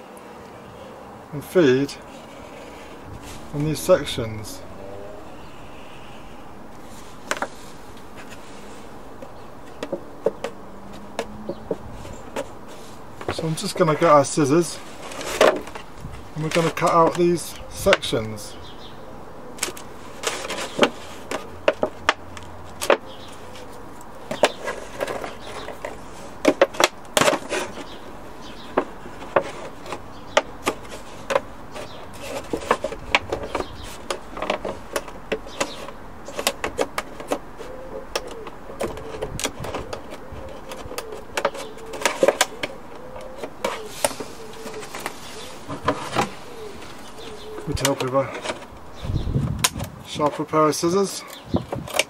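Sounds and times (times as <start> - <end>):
plastic crackling: 6.7 - 18.1, 19.6 - 49.9.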